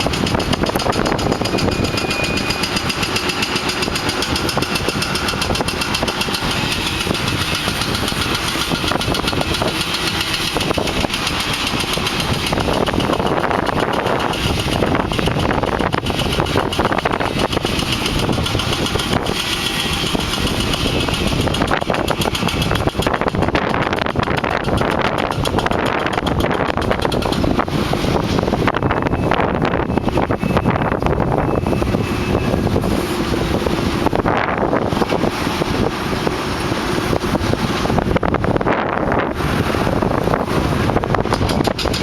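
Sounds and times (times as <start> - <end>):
demolition hammering: 0.0 - 29.2, 33.2 - 42.0
loud engine drone: 0.0 - 42.0.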